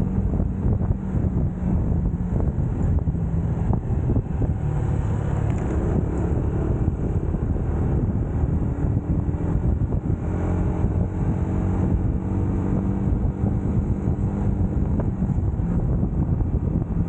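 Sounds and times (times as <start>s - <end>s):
motorcycle engine running: 0.0s - 17.0s
wind rumbling on microphone: 0.0s - 17.0s.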